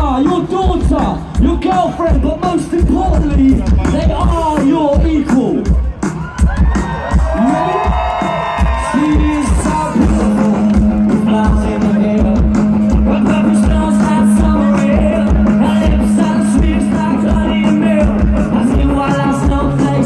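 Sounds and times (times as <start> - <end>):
punk rock band playing: 0.0 - 20.0.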